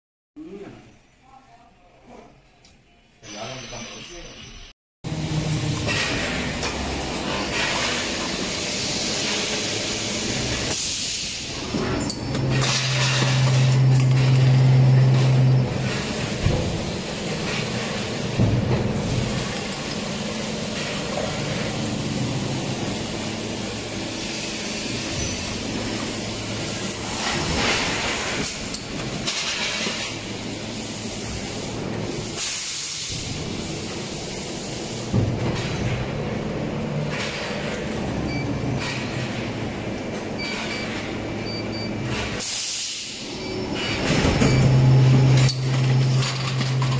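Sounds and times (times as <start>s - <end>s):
machine hiss and hum: 5.1s - 46.9s.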